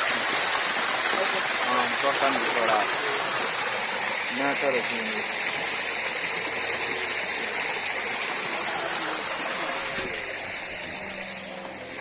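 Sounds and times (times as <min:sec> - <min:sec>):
water rushing from rock: 0:00.0 - 0:12.0.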